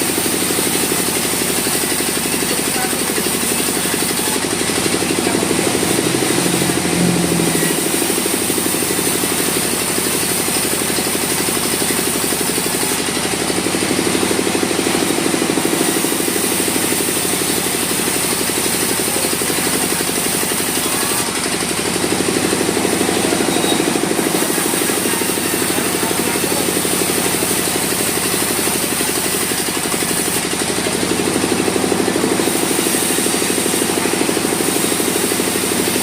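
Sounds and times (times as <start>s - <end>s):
sawmill machinery droning: 0.0s - 36.0s.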